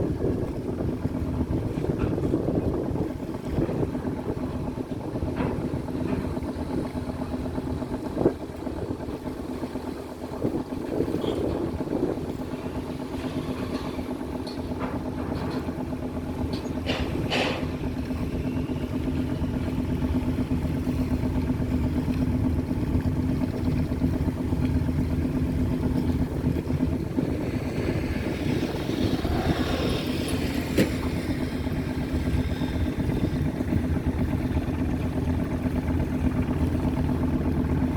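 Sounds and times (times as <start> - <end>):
boat engine droning: 0.0 - 37.9.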